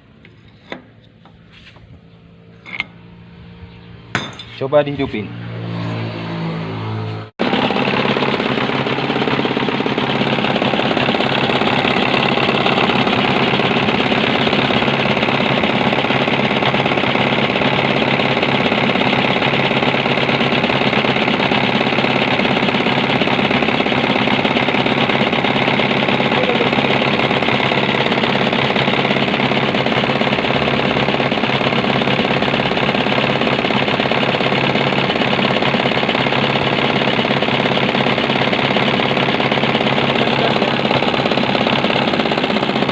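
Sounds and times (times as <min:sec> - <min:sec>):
diesel engine idling: 0:07.4 - 0:42.9.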